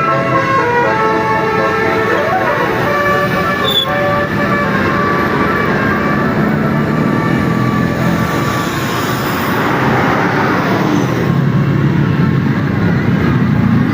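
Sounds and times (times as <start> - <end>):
bus engine: 0.0 - 13.9
road and air noise: 0.0 - 13.9.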